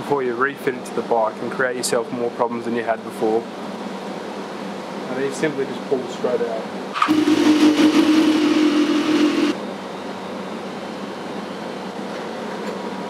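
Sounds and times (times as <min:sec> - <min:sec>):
electric hum with high whine: 0:00.0 - 0:13.0.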